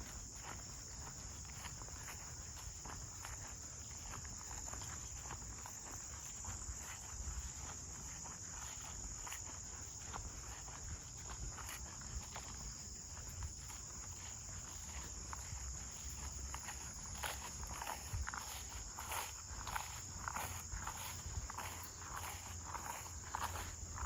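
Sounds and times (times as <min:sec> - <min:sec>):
footsteps crunching on trail: 0:00.0 - 0:24.0
insects chirring: 0:00.0 - 0:24.0.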